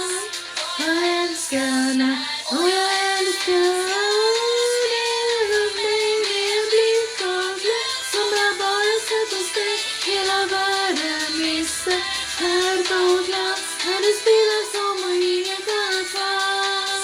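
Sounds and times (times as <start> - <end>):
song accompaniment: 0.0 - 17.0
woman singing long gliding notes: 0.0 - 17.0.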